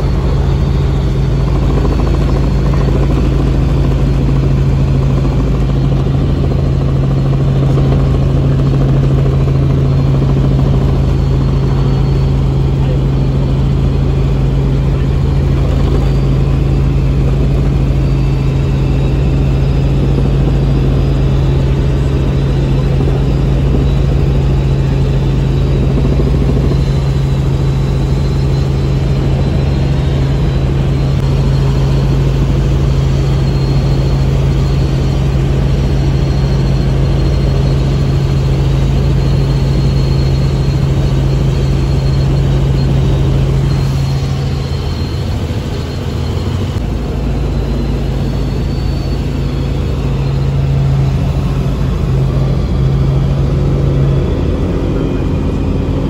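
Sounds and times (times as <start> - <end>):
helicopter engine and rotors droning: 0.0 - 56.0.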